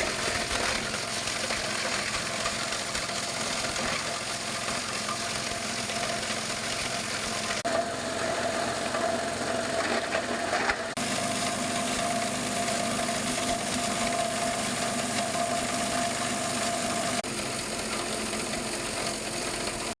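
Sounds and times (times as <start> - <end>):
plastic shredder motor humming: 0.0 - 20.0.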